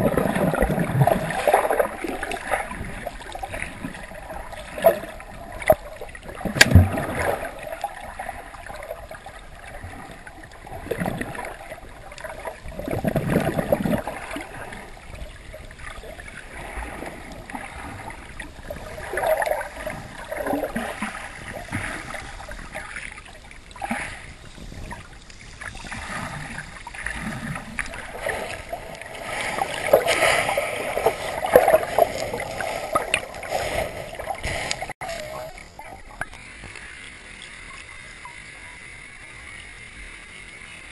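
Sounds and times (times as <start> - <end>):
sea water sloshing underwater: 0.0 - 40.9.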